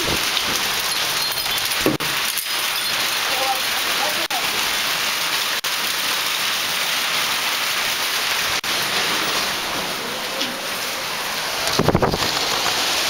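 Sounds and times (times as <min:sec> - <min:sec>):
heavy rain and hail: 0:00.0 - 0:13.0.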